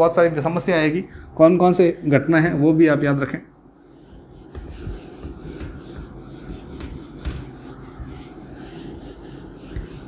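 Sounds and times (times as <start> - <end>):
duster rubbing on whiteboard: 1.4 - 10.0.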